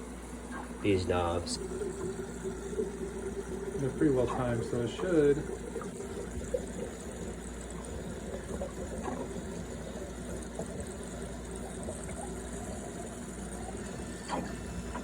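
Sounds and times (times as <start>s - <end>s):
low machine hum: 0.0s - 15.0s
liquid running into bottles: 0.9s - 15.0s.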